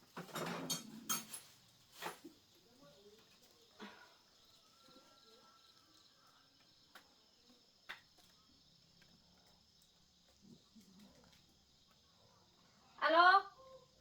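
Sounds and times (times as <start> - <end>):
insects chirring: 0.1 - 14.0.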